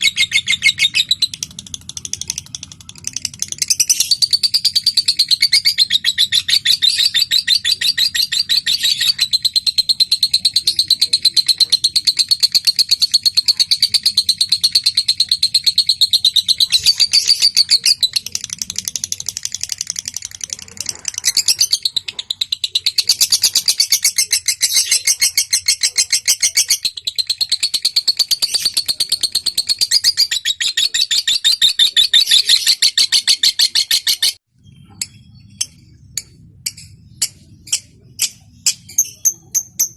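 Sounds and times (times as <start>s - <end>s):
lovebird trilling song: 0.0s - 39.9s.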